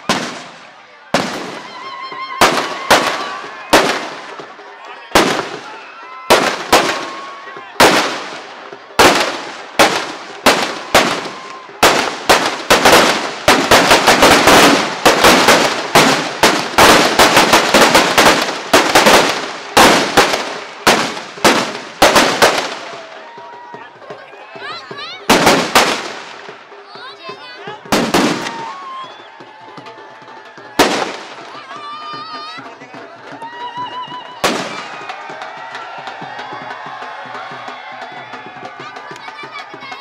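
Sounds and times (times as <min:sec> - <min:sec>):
firecrackers banging: 0:00.0 - 0:29.0, 0:29.8 - 0:33.5, 0:34.4 - 0:40.0.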